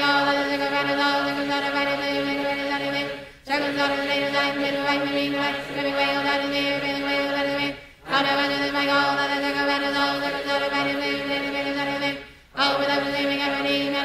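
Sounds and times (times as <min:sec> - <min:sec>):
person chanting rapidly: 0:00.0 - 0:14.0.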